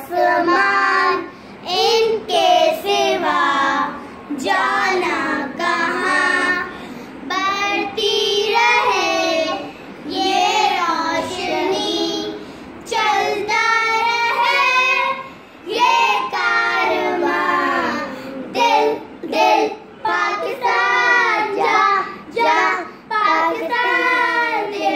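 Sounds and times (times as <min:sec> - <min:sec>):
child singing: 0:00.0 - 0:24.9.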